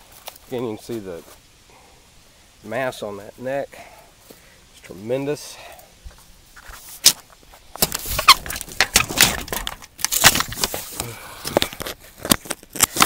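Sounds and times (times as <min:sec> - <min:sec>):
crackling in dry leaf litter: 0:00.0 - 0:13.0.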